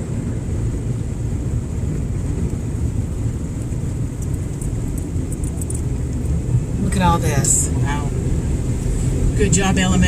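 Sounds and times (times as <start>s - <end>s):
engine rumble: 0.0s - 10.0s
water against vehicle underbody: 0.0s - 10.0s.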